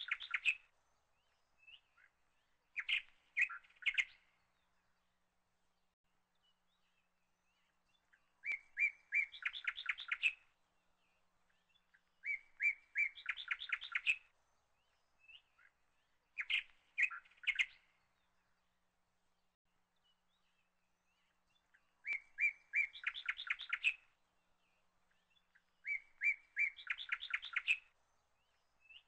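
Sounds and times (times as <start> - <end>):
bird chirping: 0.0 - 29.0.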